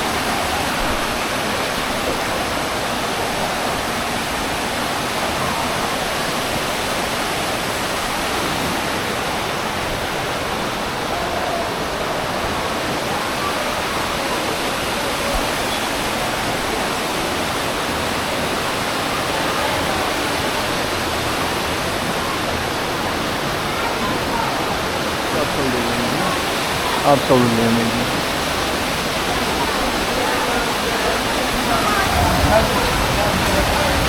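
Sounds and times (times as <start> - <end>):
waterfall and creek rushing: 0.0 - 34.0.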